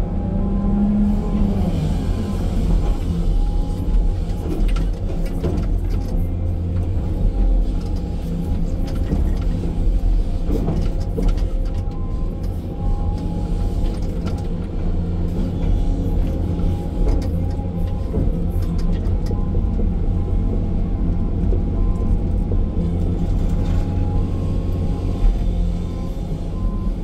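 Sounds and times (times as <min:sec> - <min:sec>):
excavator engine rumbling: 0:00.0 - 0:27.0.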